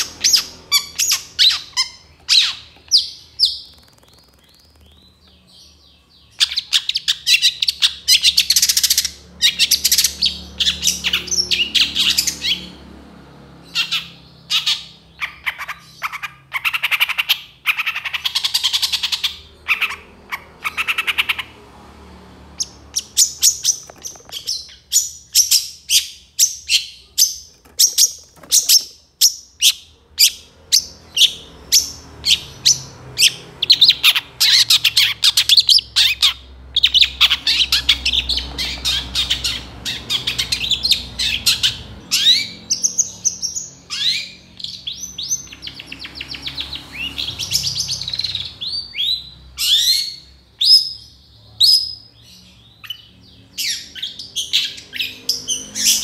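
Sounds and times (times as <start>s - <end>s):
bird singing harsh chatters: 0.0s - 13.0s, 13.6s - 21.6s, 22.5s - 56.0s.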